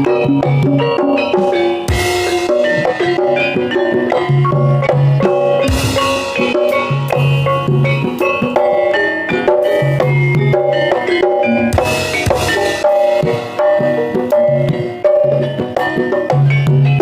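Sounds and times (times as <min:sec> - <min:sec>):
drum strokes: 0:00.0 - 0:17.0
pitched percussion melody: 0:00.0 - 0:17.0.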